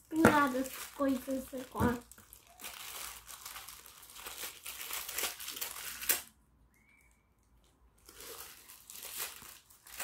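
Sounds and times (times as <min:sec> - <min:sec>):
wrapping crinkling: 0:00.0 - 0:06.3, 0:06.9 - 0:10.0.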